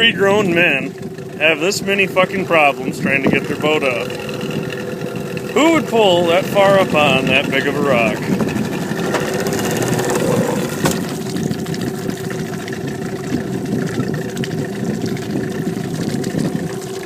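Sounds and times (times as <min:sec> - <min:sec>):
churning water: 0:00.0 - 0:17.0
motorboat engine running: 0:00.0 - 0:17.0.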